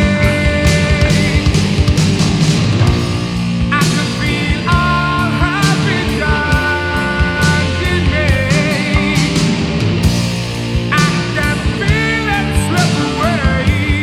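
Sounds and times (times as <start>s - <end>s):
bass: 0.0s - 14.0s
drums: 0.0s - 14.0s
electric lead guitar: 0.0s - 14.0s.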